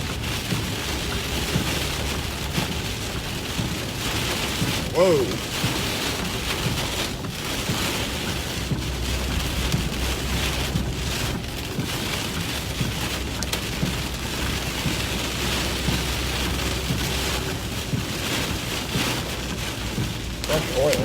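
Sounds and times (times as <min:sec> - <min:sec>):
heavy rain pelting vehicle: 0:00.0 - 0:21.0.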